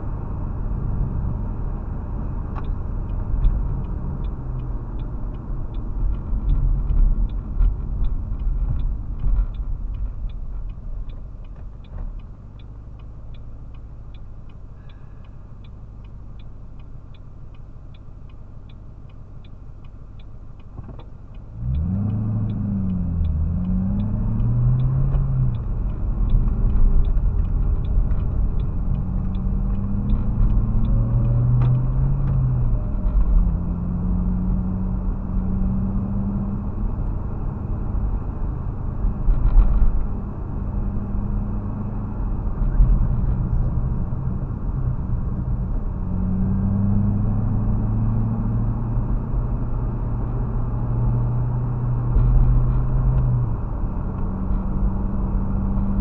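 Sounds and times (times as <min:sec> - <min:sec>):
tyre and road noise: 0:00.0 - 0:15.5, 0:18.3 - 0:56.0
car engine: 0:00.0 - 0:56.0
turn signal ticking: 0:00.1 - 0:56.0.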